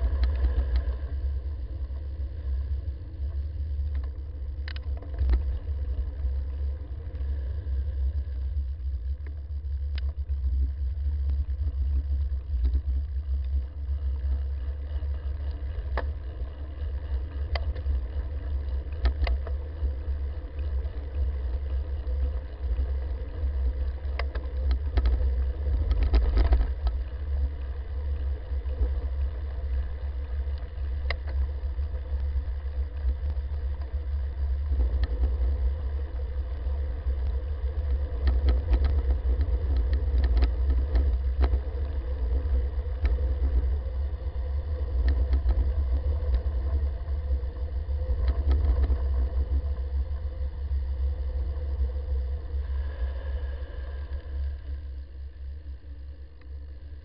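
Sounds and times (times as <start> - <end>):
bicycle clicks and rattles: 0.0 - 50.2
wind rumble on microphone: 0.0 - 57.0.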